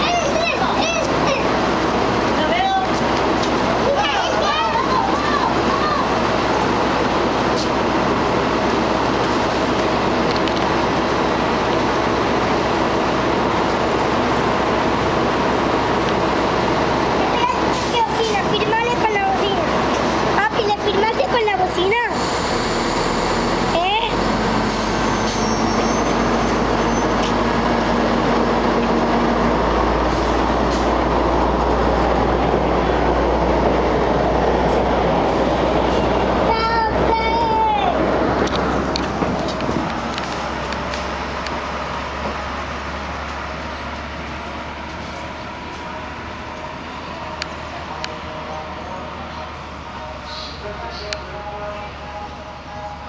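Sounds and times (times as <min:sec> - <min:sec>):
diesel railcar engine running: 0:00.0 - 0:53.0.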